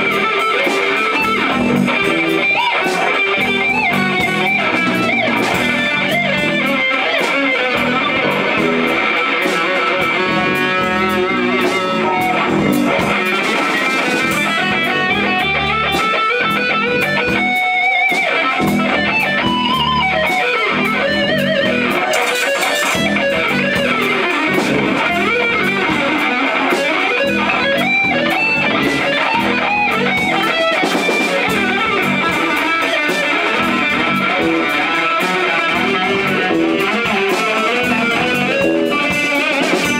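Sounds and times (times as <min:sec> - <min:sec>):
electric guitar playing fast notes: 0:00.0 - 0:39.9.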